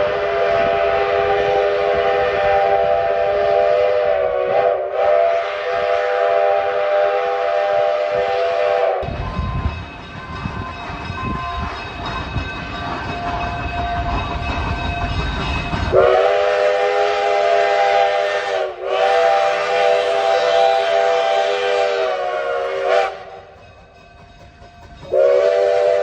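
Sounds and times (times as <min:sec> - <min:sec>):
steam locomotive chime whistle: 0:00.0 - 0:26.0
train rumbling: 0:00.0 - 0:26.0.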